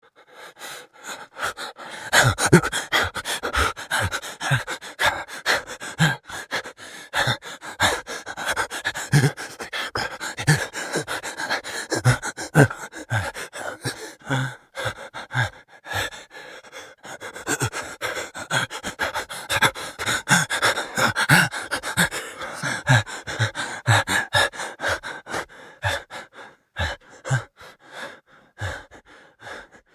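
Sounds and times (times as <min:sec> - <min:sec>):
person breathing fast in panic: 0:00.0 - 0:29.9
person gasping: 0:00.0 - 0:29.9.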